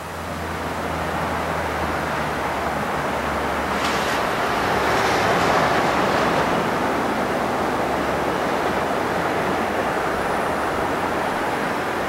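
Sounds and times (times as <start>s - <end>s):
diesel train running on rails: 0.0s - 12.0s.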